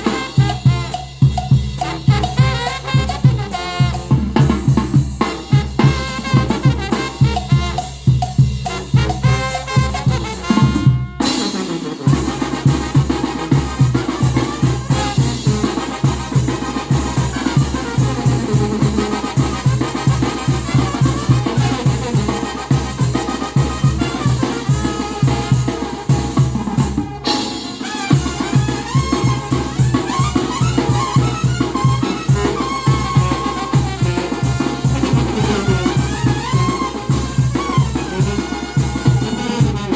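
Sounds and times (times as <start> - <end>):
brass band playing: 0.0 - 39.9
drums with driving beat: 0.0 - 39.9.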